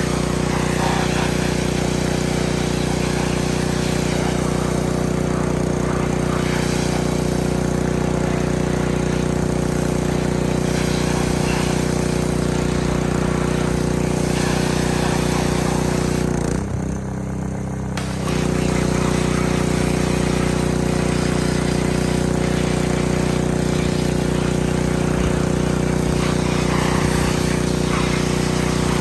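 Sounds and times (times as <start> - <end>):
water spray hissing: 0.0 - 16.3, 18.0 - 29.0
small gas engine running: 0.0 - 29.0.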